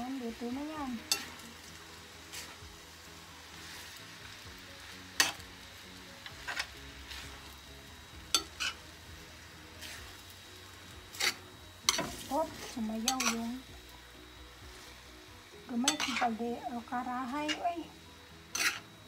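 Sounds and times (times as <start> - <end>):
noodles sizzling in a frying pan: 0.0 - 19.0.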